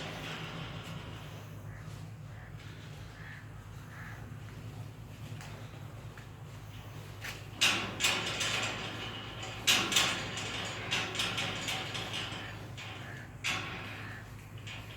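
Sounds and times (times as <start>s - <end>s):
low hum: 0.0s - 14.9s
sharp clanks and rattles: 0.0s - 14.9s.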